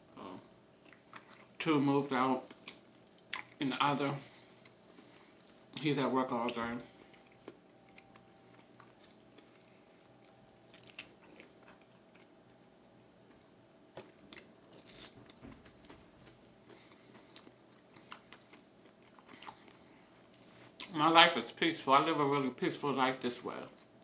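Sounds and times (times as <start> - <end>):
person chewing crunchy food: 0.1 - 1.6, 2.4 - 21.0.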